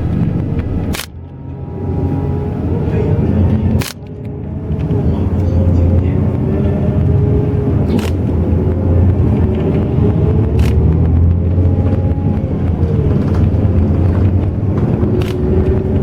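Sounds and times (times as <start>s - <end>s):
bus engine and road rumble: 0.0s - 16.0s
faint whine sliding in pitch: 0.0s - 16.0s.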